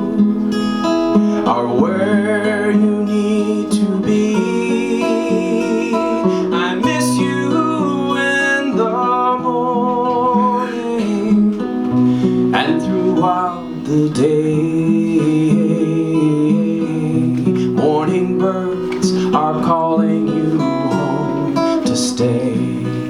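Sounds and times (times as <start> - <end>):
acoustic guitar strumming: 0.0 - 23.0
man singing folk song: 0.0 - 23.0.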